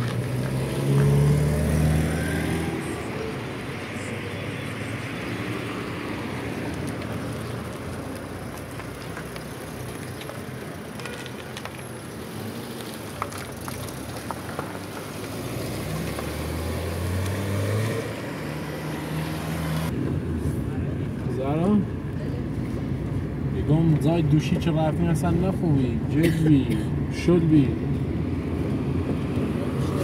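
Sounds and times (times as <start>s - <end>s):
road noise hiss: 0.0s - 30.0s.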